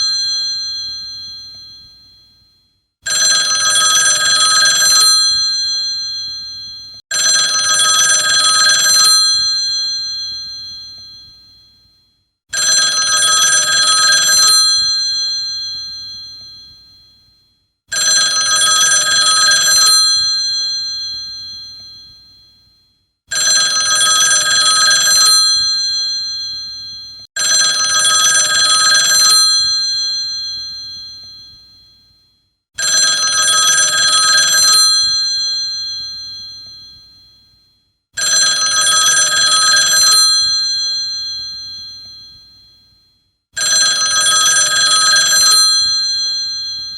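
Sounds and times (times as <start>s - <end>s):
telephone bell ringing: 0.0s - 2.4s, 3.1s - 11.8s, 12.5s - 17.2s, 17.9s - 22.6s, 23.3s - 32.0s, 32.8s - 37.6s, 38.2s - 43.0s, 43.6s - 46.9s.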